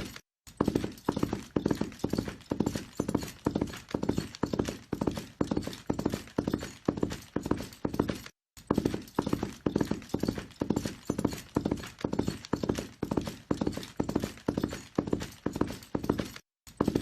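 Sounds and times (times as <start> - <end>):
horse galloping: 0.0 - 17.0.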